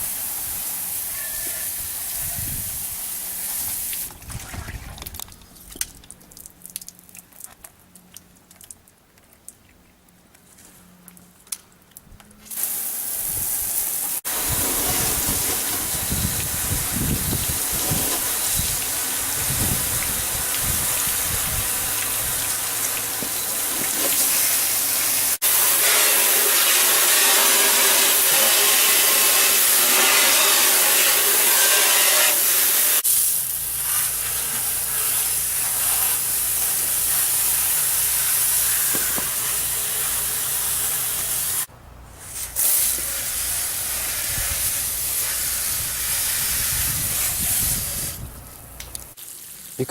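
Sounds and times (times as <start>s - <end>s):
water spraying from hose washer: 0.0s - 4.8s, 12.4s - 49.9s.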